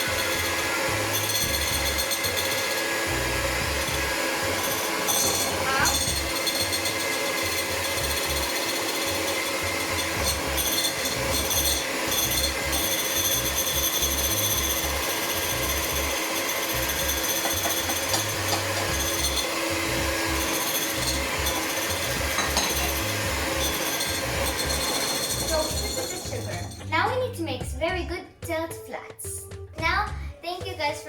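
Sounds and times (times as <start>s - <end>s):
electric hand mixer running: 0.0s - 26.9s.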